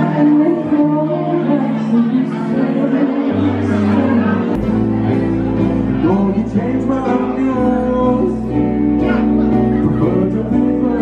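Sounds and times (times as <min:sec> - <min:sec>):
bass line: 0:00.0 - 0:11.0
electric guitar: 0:00.0 - 0:11.0
person singing: 0:00.0 - 0:11.0.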